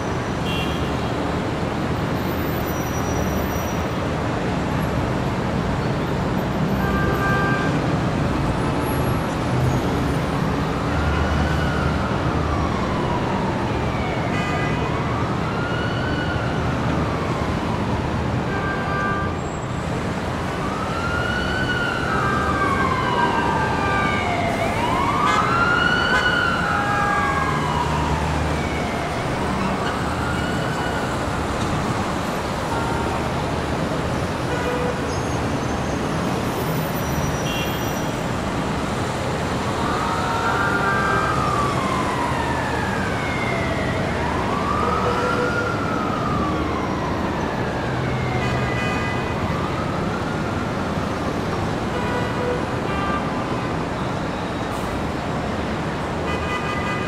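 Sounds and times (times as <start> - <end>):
emergency vehicle siren wailing: 0.0 - 57.0
street traffic: 0.0 - 57.0.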